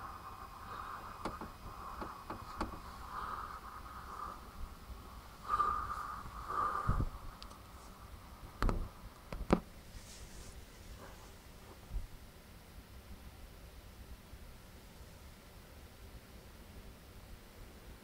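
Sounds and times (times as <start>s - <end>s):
faint background hiss: 0.0s - 18.0s.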